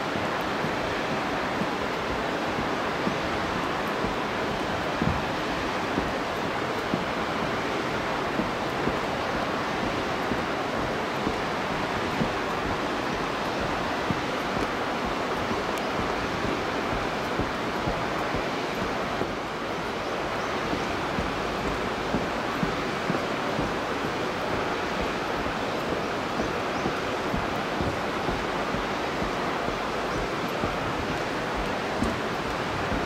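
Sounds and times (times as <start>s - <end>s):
river rushing: 0.0s - 33.0s
footsteps on wooden planks: 0.4s - 33.0s.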